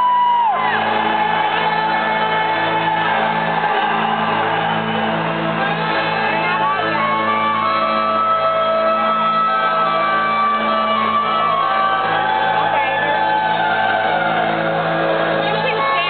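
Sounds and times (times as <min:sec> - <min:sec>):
crowd cheering: 0:00.0 - 0:16.0
people shouting: 0:00.0 - 0:16.0.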